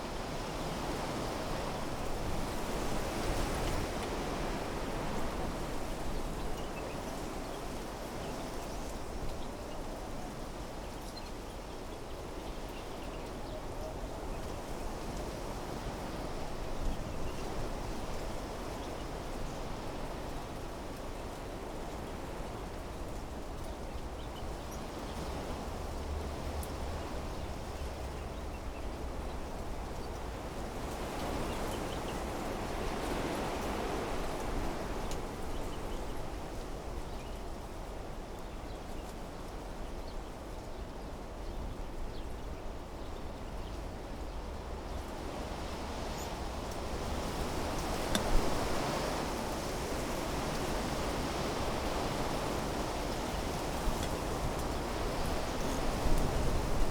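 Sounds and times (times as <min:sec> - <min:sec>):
wind blowing through trees: 0:00.0 - 0:56.9.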